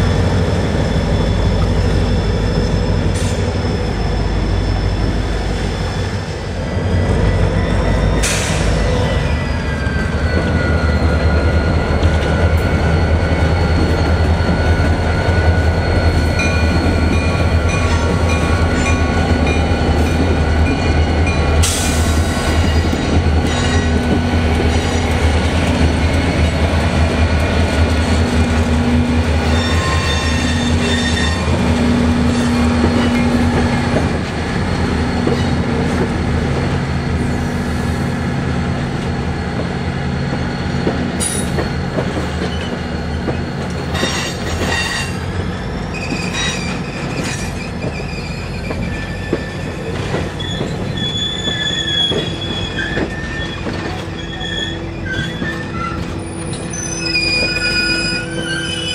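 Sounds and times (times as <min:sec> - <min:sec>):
diesel locomotive engine hum: 0:00.0 - 0:58.9
train wheel squeal: 0:00.0 - 0:58.9.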